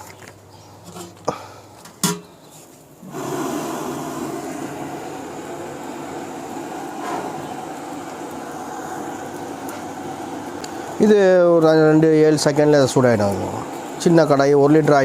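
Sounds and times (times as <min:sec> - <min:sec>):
gas burner flame roaring: 0:00.0 - 0:15.0.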